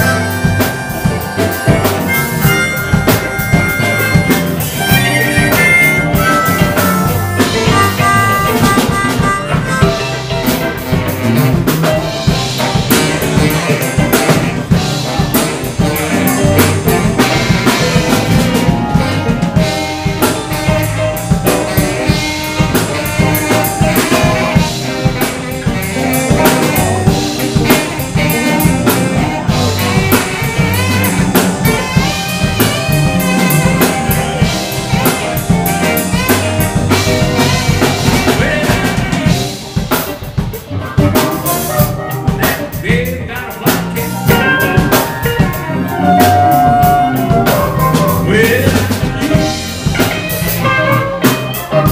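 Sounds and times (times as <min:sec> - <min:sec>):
bass: 0:00.0 - 0:51.9
drum kit: 0:00.0 - 0:51.9
electric guitar: 0:00.0 - 0:51.9
harmonica wails: 0:00.0 - 0:51.9
saxophone lead: 0:00.0 - 0:51.9.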